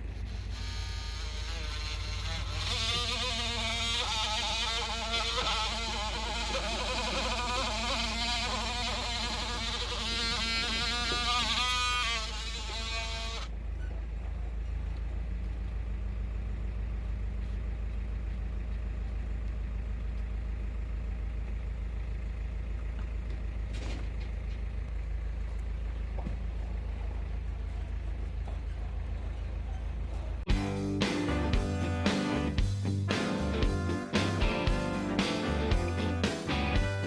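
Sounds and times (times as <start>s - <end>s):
low motor hum: 0.0s - 37.0s.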